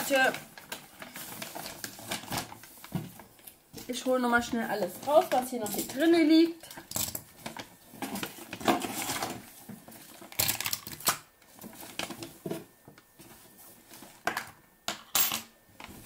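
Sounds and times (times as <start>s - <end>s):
packaging rustling and crinkling: 0.0s - 14.4s.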